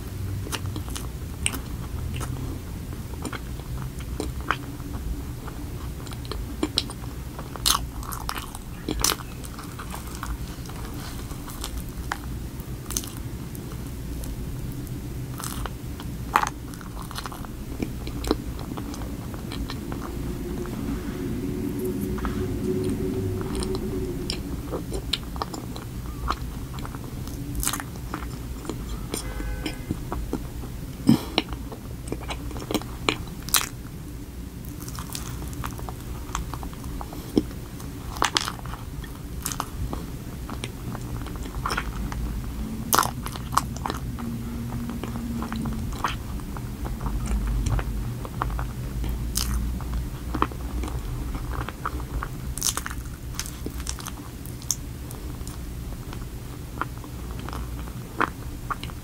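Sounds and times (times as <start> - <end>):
close chewing of a donut: 0.0 - 20.6, 22.8 - 59.0.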